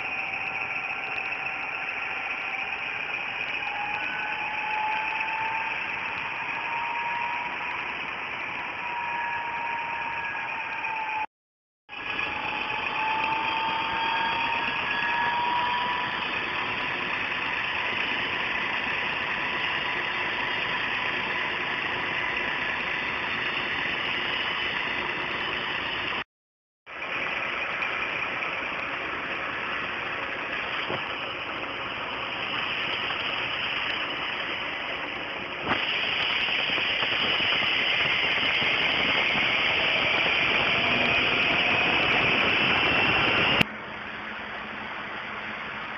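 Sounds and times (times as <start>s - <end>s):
emergency vehicle engines humming: 0.0s - 11.3s, 11.9s - 26.2s, 26.9s - 45.9s.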